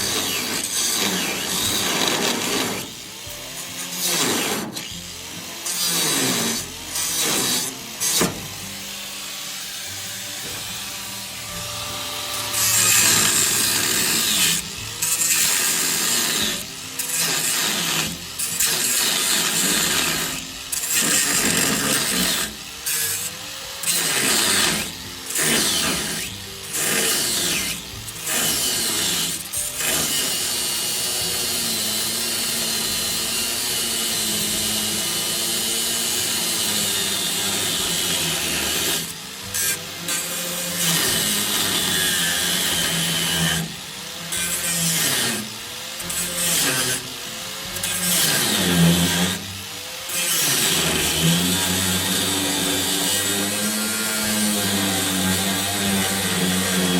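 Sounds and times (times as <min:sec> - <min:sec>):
electric power tool motor: 0:00.0 - 0:56.9.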